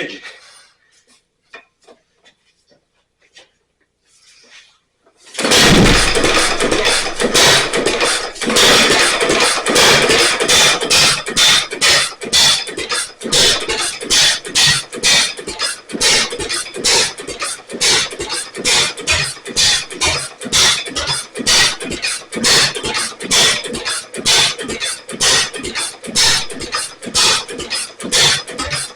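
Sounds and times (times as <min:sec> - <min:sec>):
stationary engine firing: 0:05.4 - 0:28.9.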